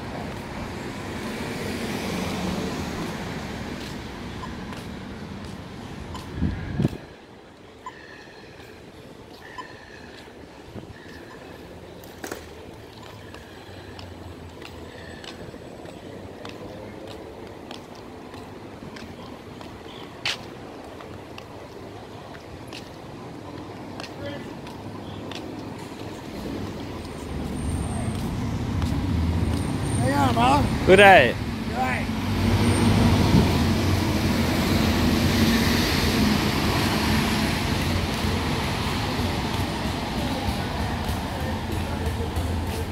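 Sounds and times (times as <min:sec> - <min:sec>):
street hiss: 0:00.0 - 0:42.9
traffic hum: 0:00.0 - 0:42.9.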